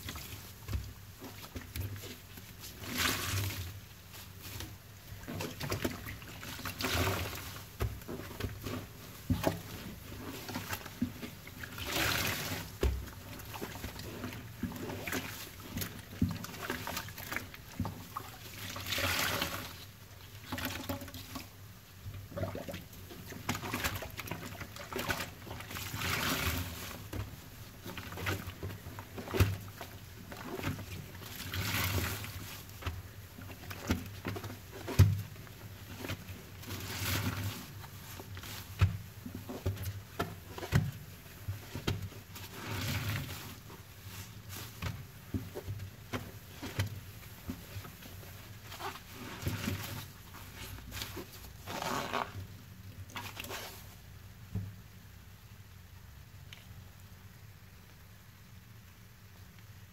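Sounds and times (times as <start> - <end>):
sponge scrubbing and squishing: 0.0 - 21.6, 22.2 - 54.1.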